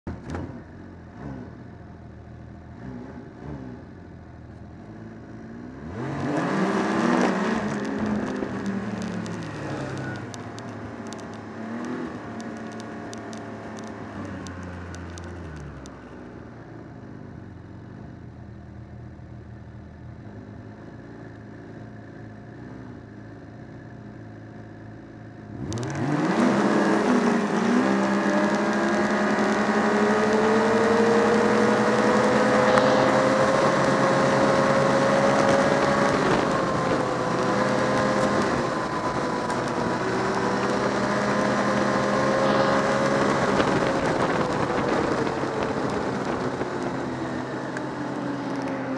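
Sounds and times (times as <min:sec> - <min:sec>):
snowmobile engine idling and revving: 0:00.0 - 0:48.9.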